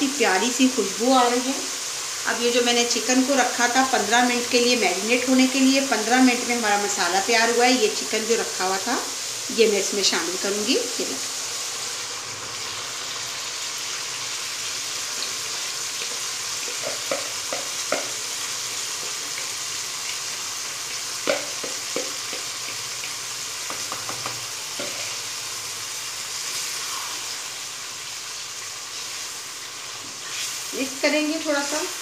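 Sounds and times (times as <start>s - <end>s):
chicken sizzling in oil: 0.0s - 32.0s.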